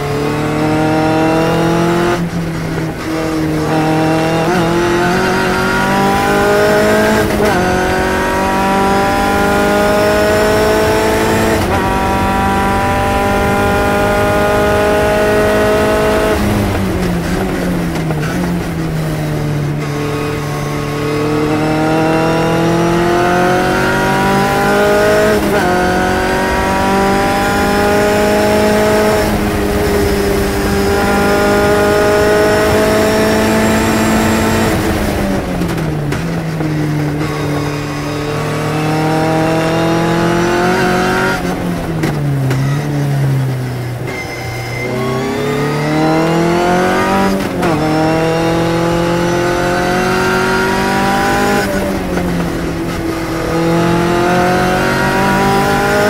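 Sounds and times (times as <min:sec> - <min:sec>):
racing car engine shifting gears: 0:00.0 - 0:56.0.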